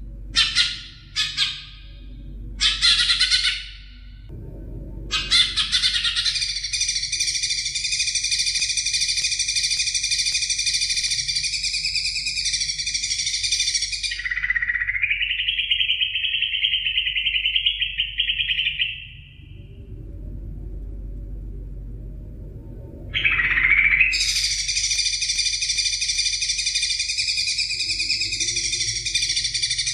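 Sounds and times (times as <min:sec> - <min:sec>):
bird singing rapid trill: 0:00.4 - 0:04.2, 0:05.1 - 0:19.5, 0:23.1 - 0:29.9.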